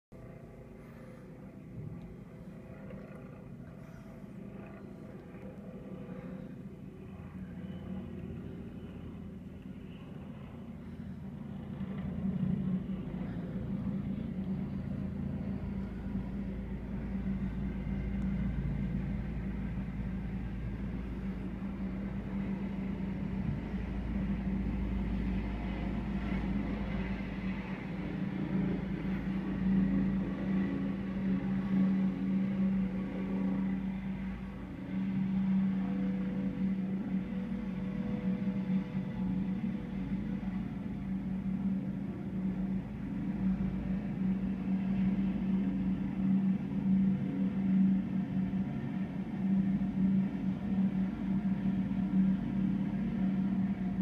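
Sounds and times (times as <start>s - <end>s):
helicopter hum and rumble: 0.1s - 54.0s.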